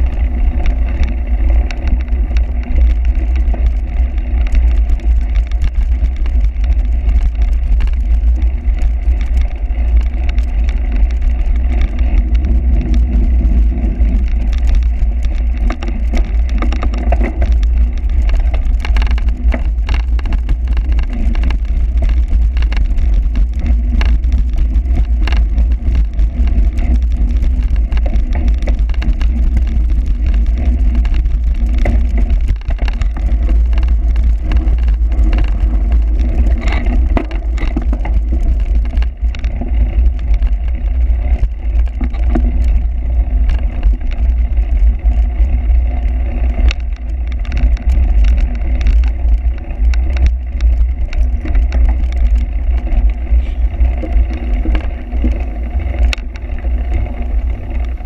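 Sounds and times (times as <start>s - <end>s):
bike clicks and rattles: 0.0s - 58.0s
wind rumble on microphone: 0.0s - 58.0s.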